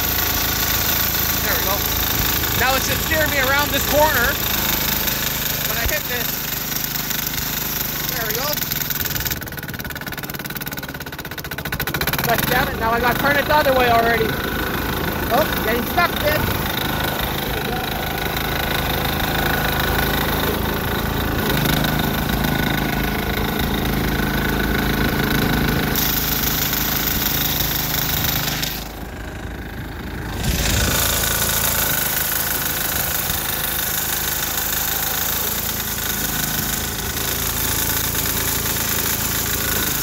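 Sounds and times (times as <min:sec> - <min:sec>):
garden tractor diesel engine running: 0:00.0 - 0:40.0.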